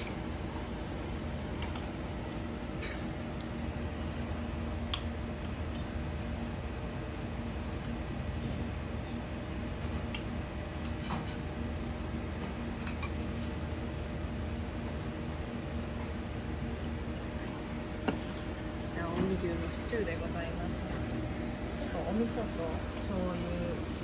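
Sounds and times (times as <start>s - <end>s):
kitchen equipment hum: 0.0s - 24.0s.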